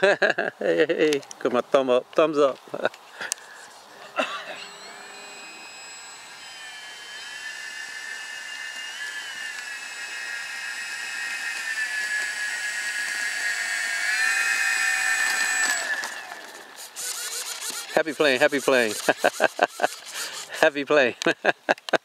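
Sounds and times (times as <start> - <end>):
model plane motor whining: 3.2 - 20.9.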